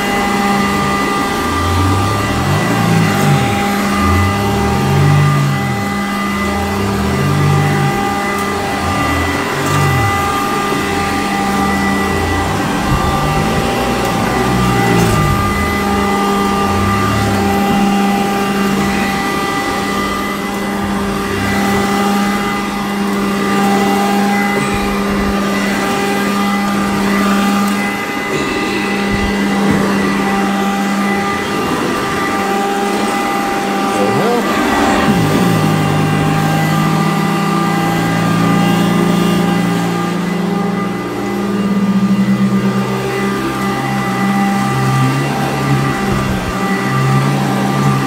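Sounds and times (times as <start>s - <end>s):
vacuum cleaner motor whine: 0.0s - 48.0s
vacuum rumbling over carpet: 0.0s - 48.0s.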